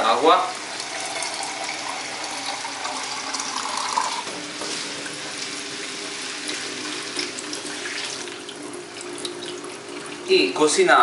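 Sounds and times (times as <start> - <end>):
water poured into frying pan: 0.6 - 10.3.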